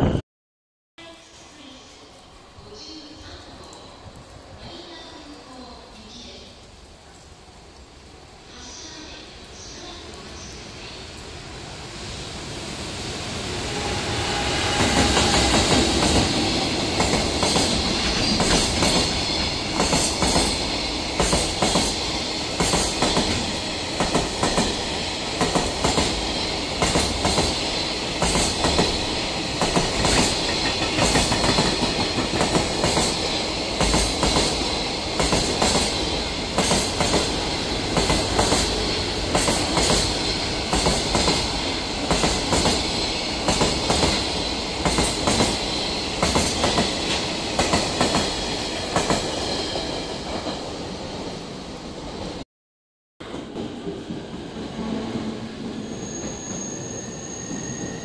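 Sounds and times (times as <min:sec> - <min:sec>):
freight train passing: 0:01.0 - 0:52.4, 0:53.2 - 0:58.0.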